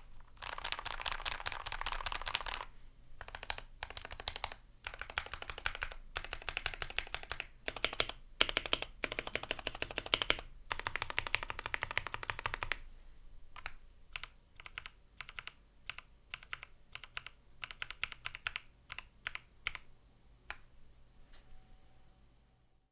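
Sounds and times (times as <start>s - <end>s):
typing on mechanical keyboard: 0.0s - 12.8s, 13.6s - 19.9s.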